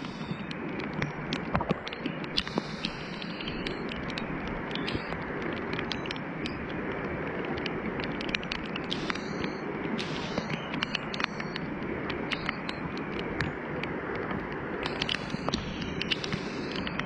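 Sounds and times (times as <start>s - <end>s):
heavy rain falling: 0.0s - 17.0s
raindrops tapping nearby: 0.0s - 17.0s.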